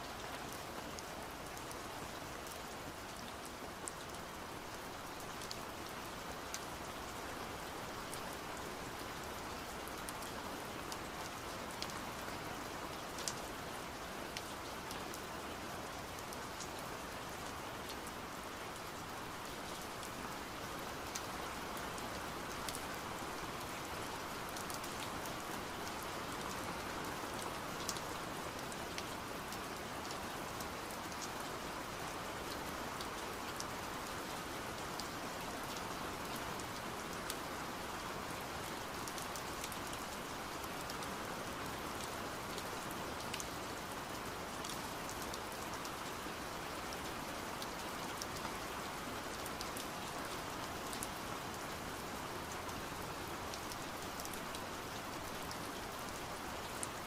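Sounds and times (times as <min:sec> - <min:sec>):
faint ticks and crackles: 0:00.0 - 0:57.0
rain-like hiss: 0:00.0 - 0:57.0.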